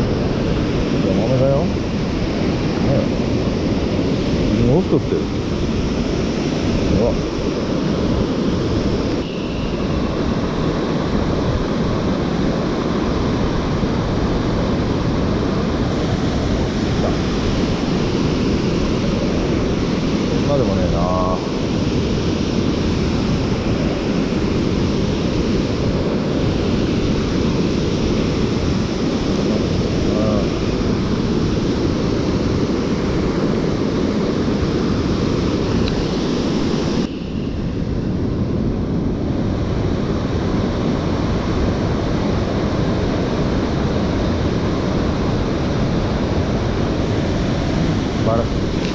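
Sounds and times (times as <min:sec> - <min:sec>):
stream water rushing: 0:00.0 - 0:48.9.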